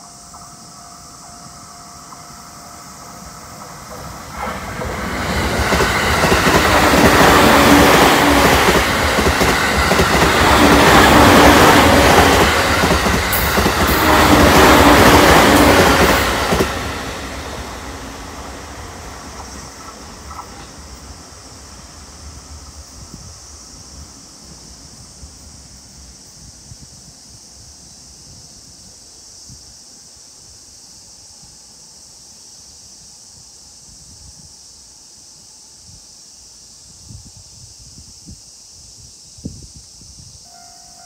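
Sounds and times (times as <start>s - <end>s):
electric train passing: 0.0s - 36.8s, 40.4s - 41.0s.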